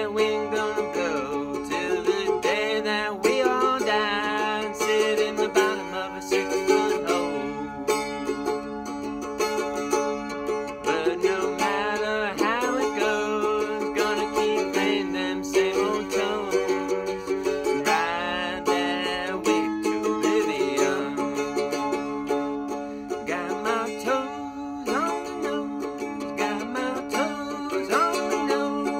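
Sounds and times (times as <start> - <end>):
man singing: 0.0 - 8.1, 10.8 - 22.2, 23.0 - 28.9
mandolin strummed fast: 0.0 - 28.9.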